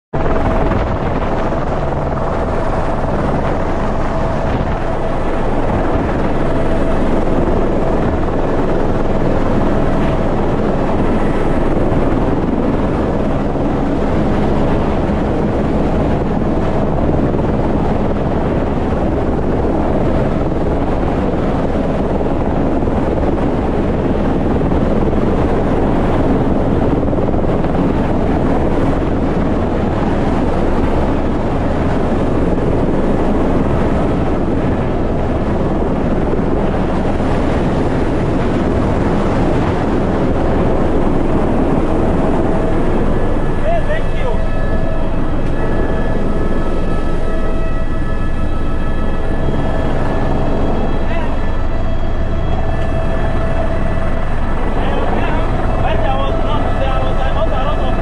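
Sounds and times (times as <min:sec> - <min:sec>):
wind rushing on microphone: 0:00.1 - 0:58.0
engine drone: 0:00.2 - 0:58.0.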